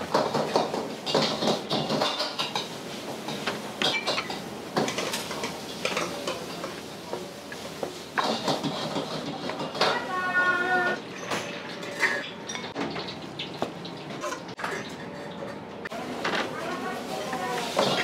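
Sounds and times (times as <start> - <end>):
plates and cutlery clinking: 0.0 - 15.6.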